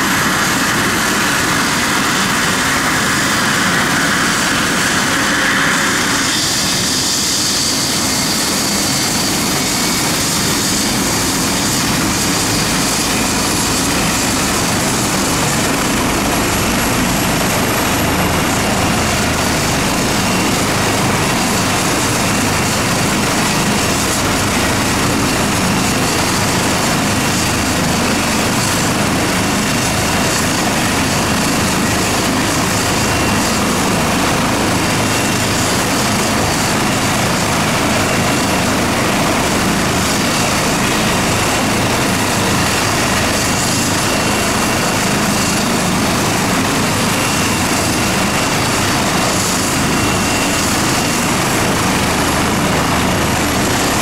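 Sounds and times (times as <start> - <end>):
helicopter turbine and rotor: 0.0 - 54.0.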